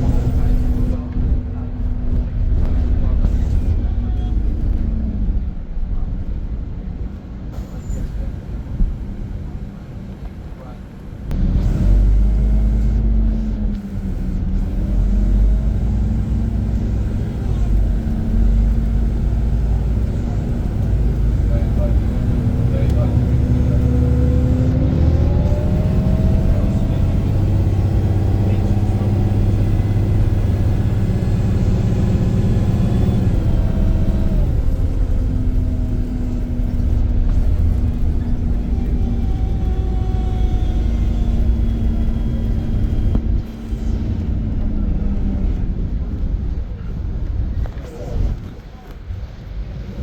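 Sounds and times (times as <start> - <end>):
bus diesel engine accelerating: 0.0 - 50.0.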